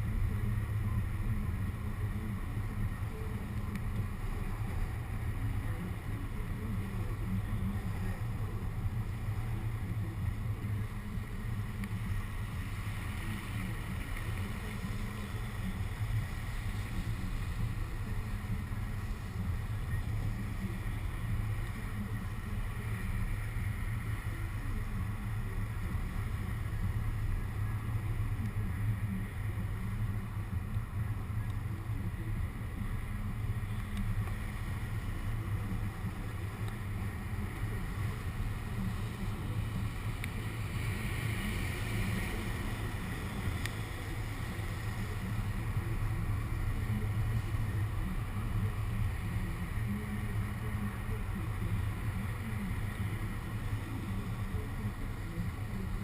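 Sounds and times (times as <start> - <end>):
car rumble: 0.0 - 56.0.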